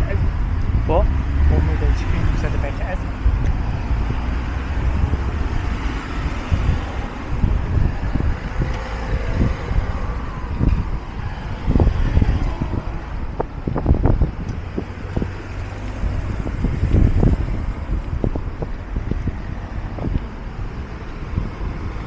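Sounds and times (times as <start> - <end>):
road traffic passing: 0.0 - 22.0
wind buffeting microphone: 0.0 - 22.0.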